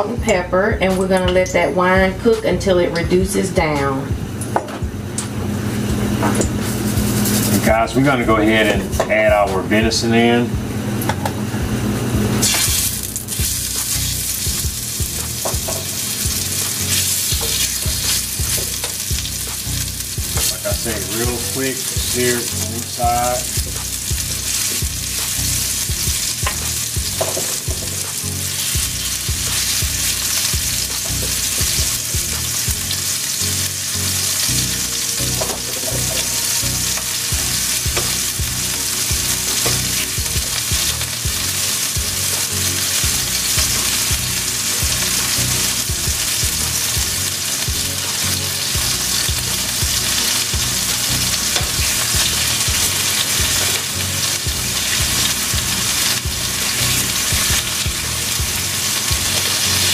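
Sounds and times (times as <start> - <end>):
meat sizzling in oil: 5.4 - 8.8, 12.2 - 59.9.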